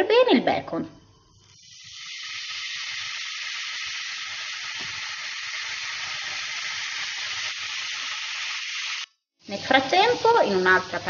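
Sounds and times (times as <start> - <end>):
bacon sizzling in a frying pan: 1.6 - 11.0.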